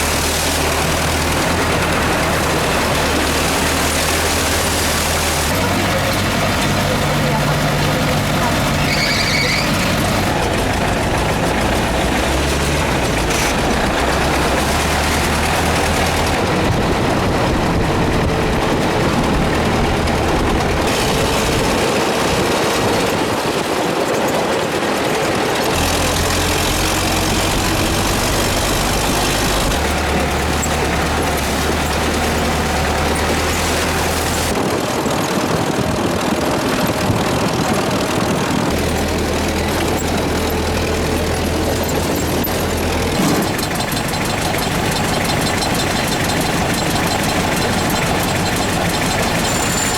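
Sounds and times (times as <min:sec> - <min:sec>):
road noise: 0:00.0 - 0:49.9
vehicle engine hum: 0:00.0 - 0:49.9.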